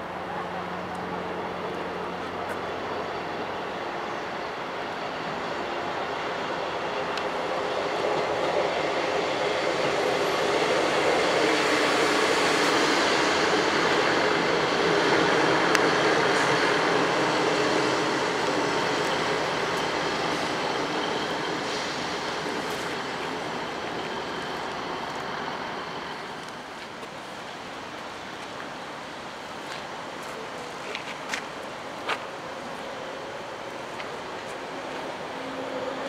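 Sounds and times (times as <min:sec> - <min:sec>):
train rumble and wheel noise: 0:00.0 - 0:36.0.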